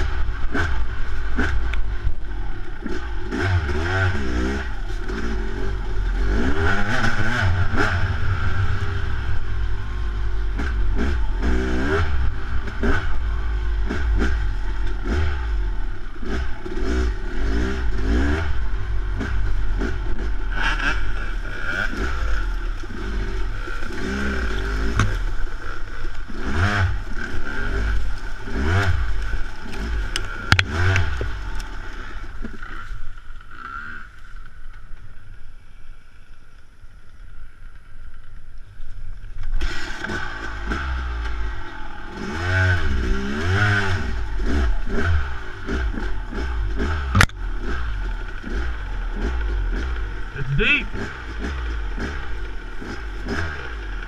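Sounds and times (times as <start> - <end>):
dirt bike engine revving: 0.0 - 34.5, 39.5 - 54.0.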